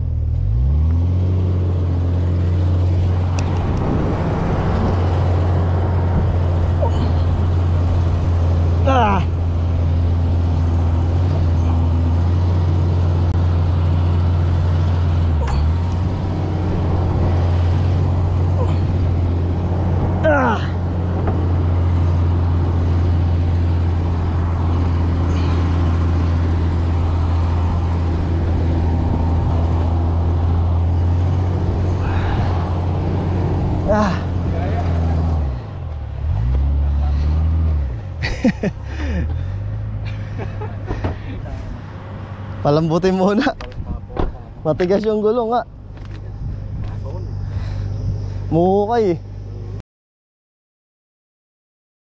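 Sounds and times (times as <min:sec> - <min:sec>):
vehicle engine droning: 0:00.0 - 0:49.8.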